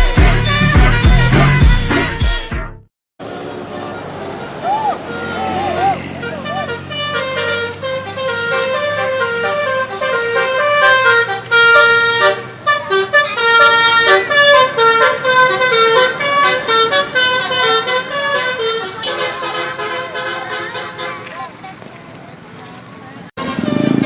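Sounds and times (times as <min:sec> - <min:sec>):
bus musical air horn: 0:00.0 - 0:02.4, 0:03.3 - 0:21.4, 0:23.4 - 0:24.0.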